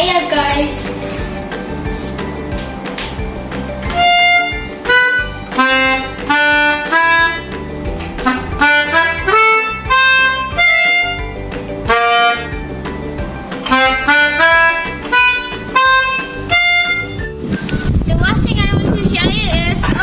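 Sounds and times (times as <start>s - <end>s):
piano melody: 0.0s - 17.6s.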